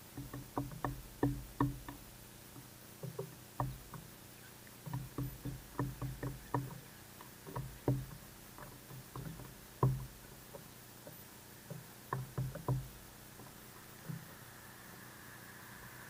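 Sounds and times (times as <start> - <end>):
beak taps on wood: 0.0 - 14.3.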